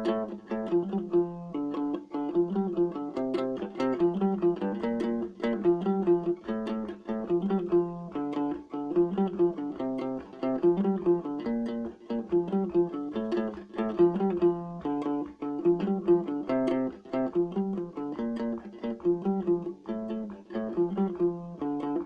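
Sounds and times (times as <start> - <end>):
guitalele plucked riff: 0.0 - 22.0.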